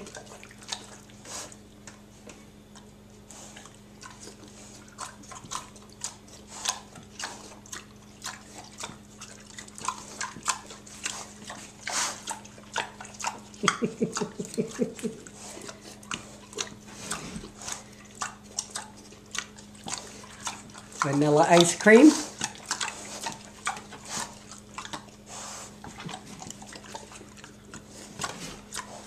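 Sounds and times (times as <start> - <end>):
pigs smacking and chomping: 0.0 - 29.0.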